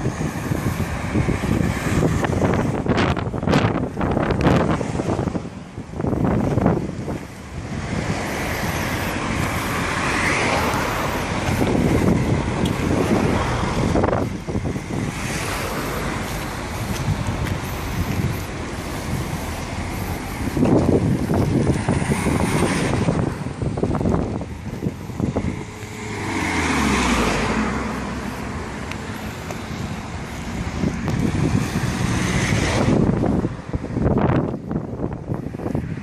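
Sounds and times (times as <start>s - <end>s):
road vehicles passing: 0.0s - 36.0s
wind rumbling on microphone: 0.0s - 36.0s.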